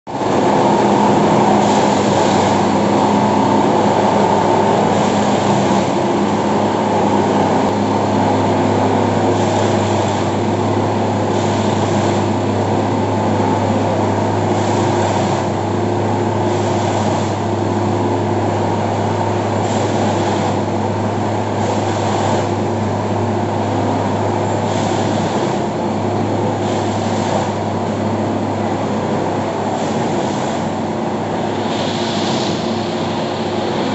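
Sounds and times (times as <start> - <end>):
tamping machine droning: 0.1 - 33.9
rough mechanical tamping bursts: 0.2 - 28.6.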